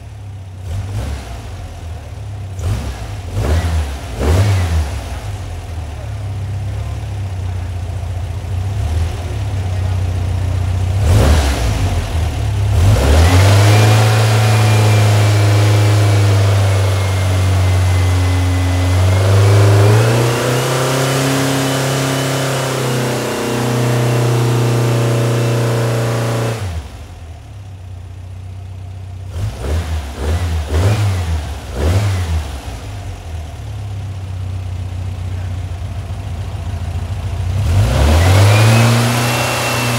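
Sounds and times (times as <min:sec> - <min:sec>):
car engine idling and revving: 0:00.0 - 0:39.9
high engine whine: 0:02.8 - 0:39.9.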